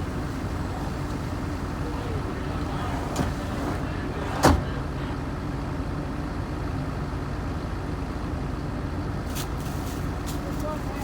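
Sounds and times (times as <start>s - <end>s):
heavy machinery engine idling: 0.0s - 11.0s.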